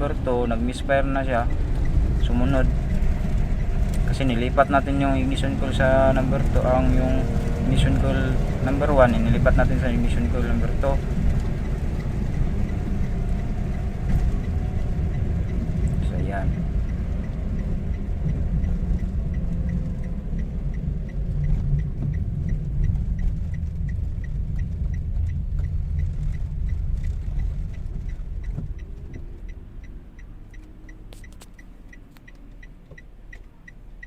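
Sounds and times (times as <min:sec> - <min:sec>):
fast light ticking: 0:00.1 - 0:34.0.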